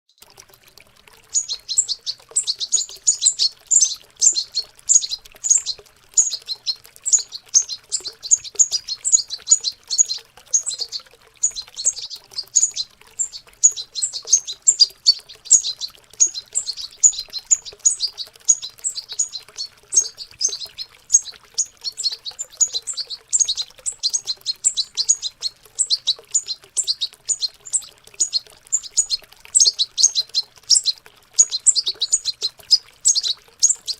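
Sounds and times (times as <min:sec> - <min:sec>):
goldfinches twittering: 0:01.2 - 0:33.9.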